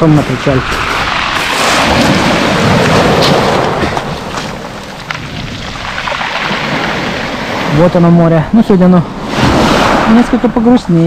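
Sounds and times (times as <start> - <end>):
wave breaking on shore: 0.8 - 8.2, 9.0 - 11.0.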